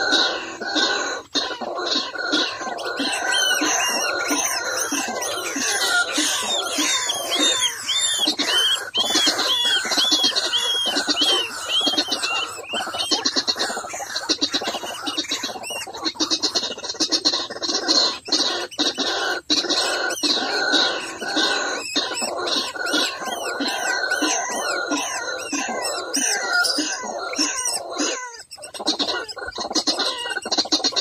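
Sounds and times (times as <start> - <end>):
fast raspy chattering: 0.0 - 31.0
waterhen calling: 0.0 - 31.0.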